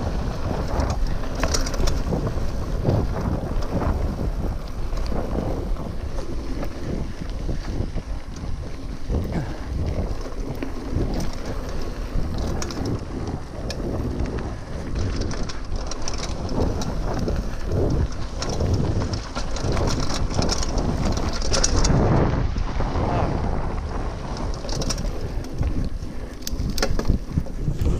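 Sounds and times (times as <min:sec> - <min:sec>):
bike clicks and rattles: 0:00.0 - 0:27.9
bike tyres rolling over dirt: 0:00.0 - 0:27.9
wind buffeting microphone: 0:00.0 - 0:27.9.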